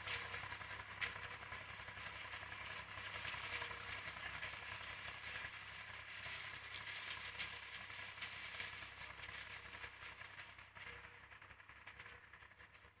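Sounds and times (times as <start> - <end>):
tractor and harvester running: 0.0 - 13.0.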